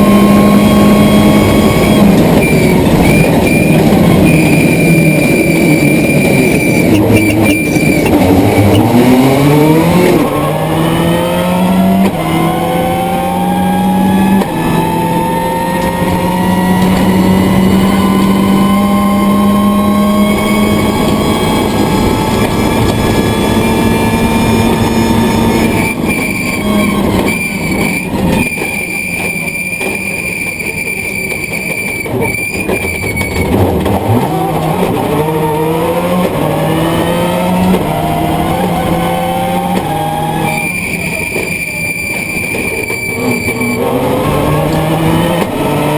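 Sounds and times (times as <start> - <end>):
car engine at full throttle: 0.0 - 45.9.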